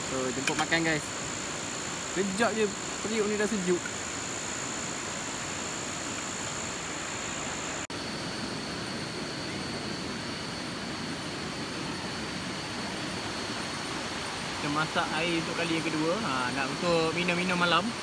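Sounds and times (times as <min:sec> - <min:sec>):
insect drone: 0:00.0 - 0:18.0
steady rushing hiss: 0:00.0 - 0:18.0.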